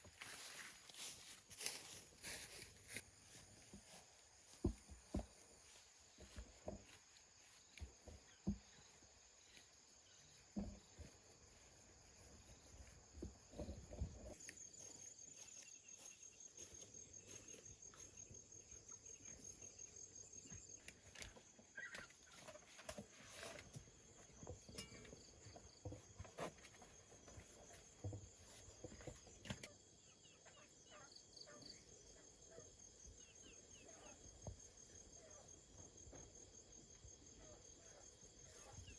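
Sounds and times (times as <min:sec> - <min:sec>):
insects trilling: 0:00.1 - 0:38.9.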